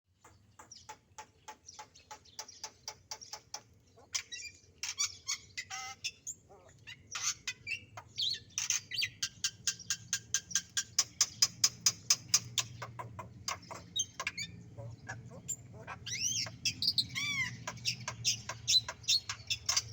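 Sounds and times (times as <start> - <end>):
songbird chirping: 0.1 - 19.9
bird warbling: 3.4 - 19.9.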